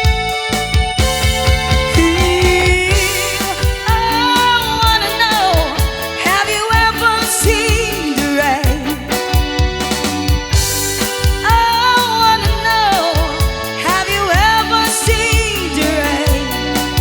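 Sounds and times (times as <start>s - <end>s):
drum and bass beat: 0.0s - 17.0s
gliding lead melody: 0.0s - 17.0s
pop-rock band music: 0.0s - 17.0s.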